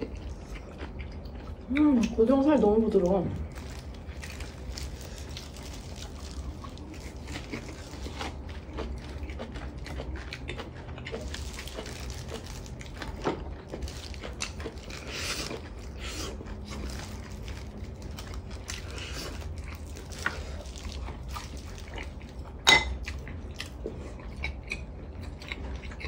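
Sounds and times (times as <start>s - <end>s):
low room hum: 0.0s - 26.0s
soft chewing: 0.0s - 26.0s.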